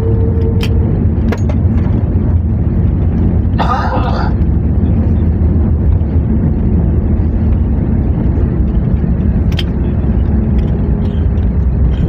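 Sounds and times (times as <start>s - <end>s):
airplane rumble: 0.0s - 12.0s.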